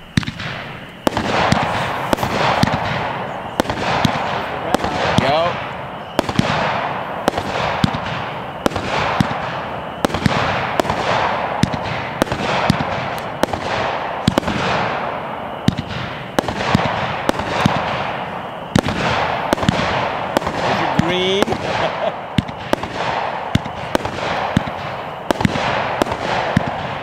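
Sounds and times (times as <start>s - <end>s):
firework bangs: 0.0s - 27.0s
firework crackling hiss: 0.0s - 27.0s.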